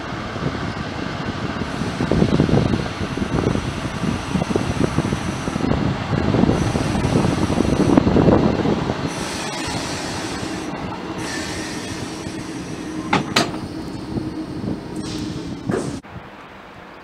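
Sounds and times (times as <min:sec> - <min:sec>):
train wheels rumbling and squealing: 0:00.0 - 0:16.0
electric locomotive hum: 0:00.0 - 0:17.0.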